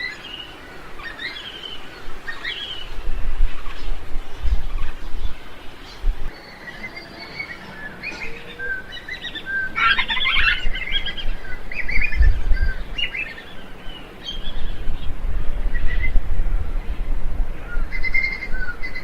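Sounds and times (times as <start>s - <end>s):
birds chirping and whistling: 0.0s - 19.0s.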